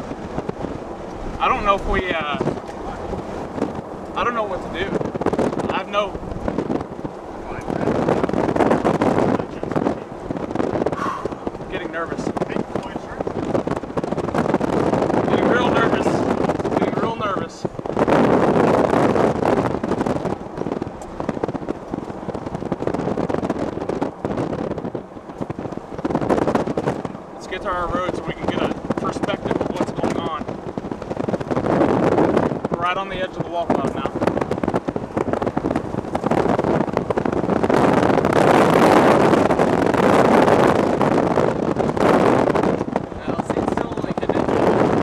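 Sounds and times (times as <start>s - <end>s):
car road and wind noise: 0.0s - 45.0s.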